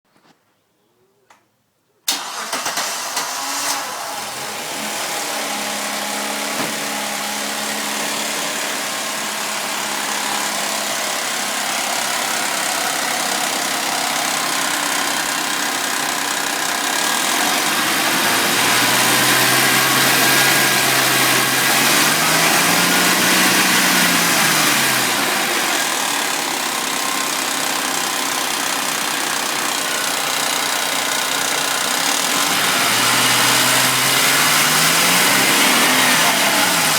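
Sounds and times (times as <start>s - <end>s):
car engine running: 3.7s - 36.9s.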